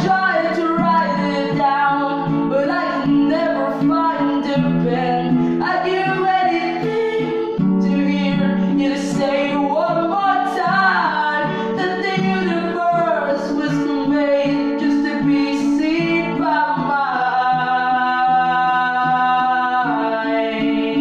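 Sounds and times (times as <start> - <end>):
baritone ukulele: 0.0 - 21.0
person singing: 0.0 - 21.0.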